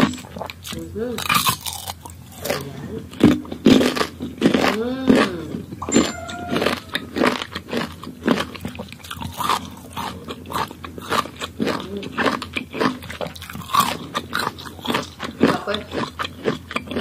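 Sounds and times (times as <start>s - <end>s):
person chewing crisp fruit: 0.0s - 17.0s.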